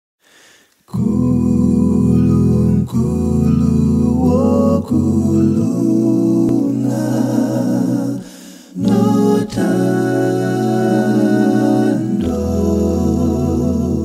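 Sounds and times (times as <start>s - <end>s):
a cappella voices in harmony: 0.8s - 14.0s.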